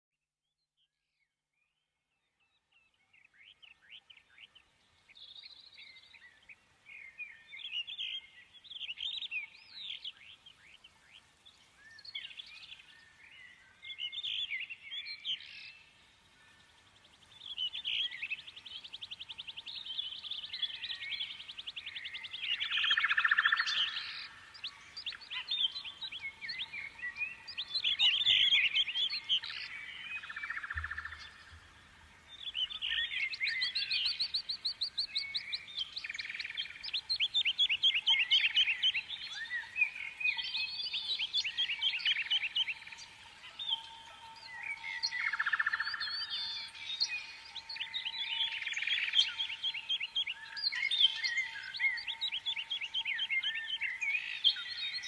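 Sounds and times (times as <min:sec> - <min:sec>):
songbirds chirping and trilling: 0:01.6 - 0:55.0.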